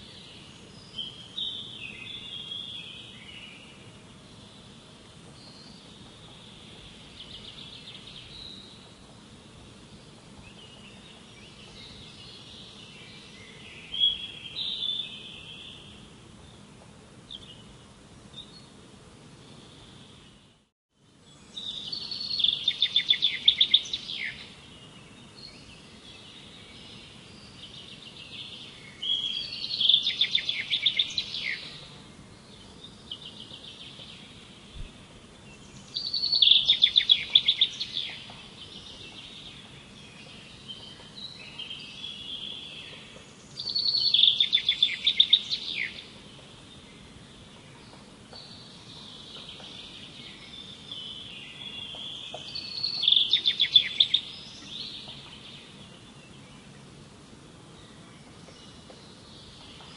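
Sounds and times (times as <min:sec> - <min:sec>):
songbirds trilling: 0:00.0 - 0:59.9
steady background hiss: 0:00.0 - 0:59.9.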